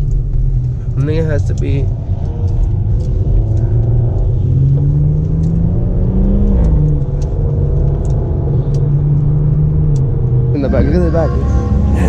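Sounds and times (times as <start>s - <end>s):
car engine: 0.0s - 12.0s
road rumble: 0.0s - 12.0s.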